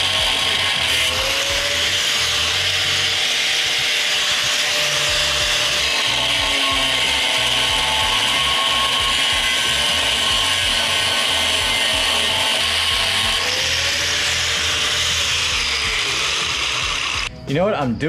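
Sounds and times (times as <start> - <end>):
angle grinder cutting steel: 0.0 - 17.3.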